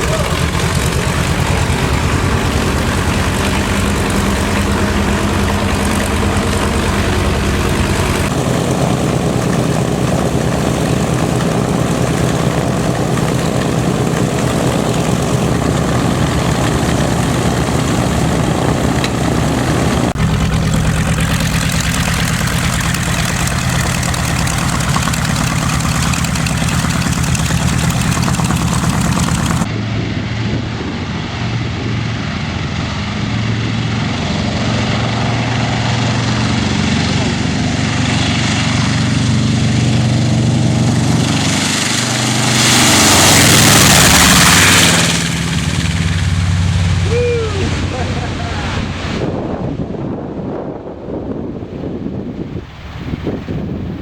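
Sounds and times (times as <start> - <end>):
propeller engines droning: 0.0 - 54.0.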